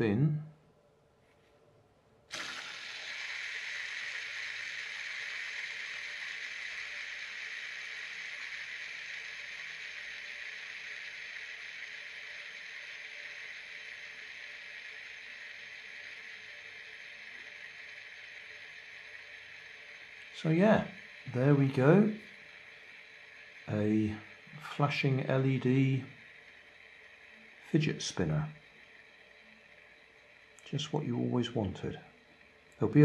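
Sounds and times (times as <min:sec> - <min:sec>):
fidget spinner whirring: 0:02.2 - 0:33.0.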